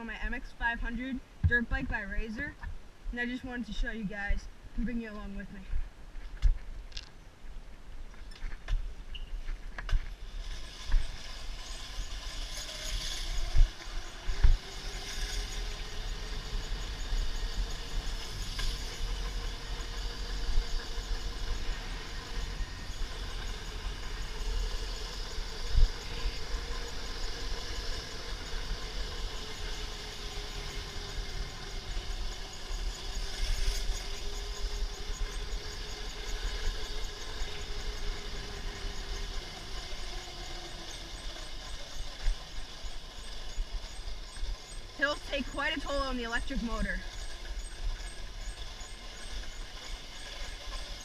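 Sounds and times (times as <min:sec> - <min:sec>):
electric motor whining: 0:09.9 - 0:51.0.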